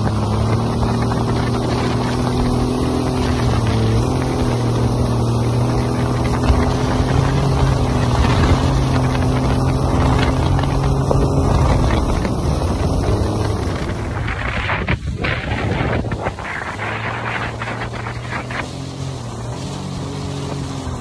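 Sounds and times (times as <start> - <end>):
jet ski engine running: 0.0 - 21.0
rushing water: 0.0 - 21.0
wind noise on microphone: 0.0 - 21.0.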